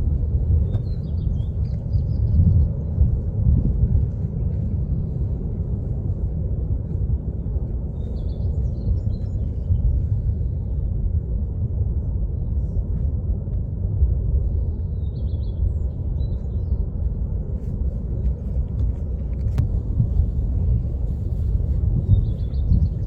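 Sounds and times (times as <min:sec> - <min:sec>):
low rumble of lava fountain: 0:00.0 - 0:23.0.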